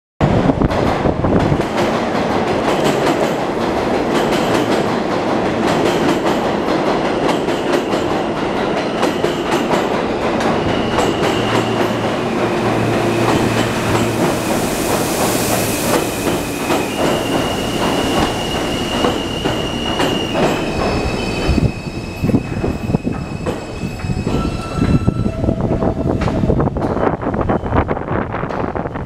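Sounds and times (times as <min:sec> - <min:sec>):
subway train rumbling: 0:00.2 - 0:29.0.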